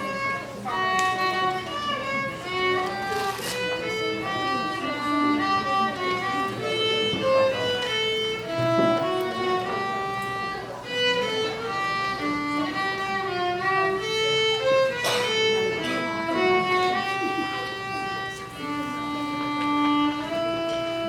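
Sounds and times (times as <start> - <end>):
solo violin slow melody: 0.0 - 21.0.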